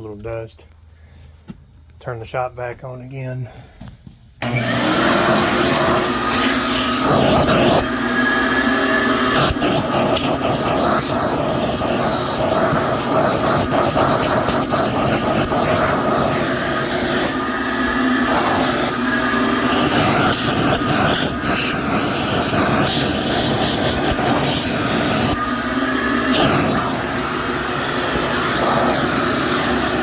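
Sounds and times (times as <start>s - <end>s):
shop vac rushing air: 4.4s - 30.0s.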